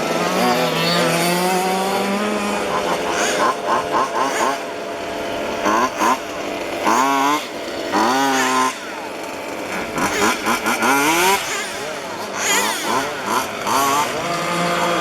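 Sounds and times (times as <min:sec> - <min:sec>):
rc car engines revving: 0:00.0 - 0:15.0.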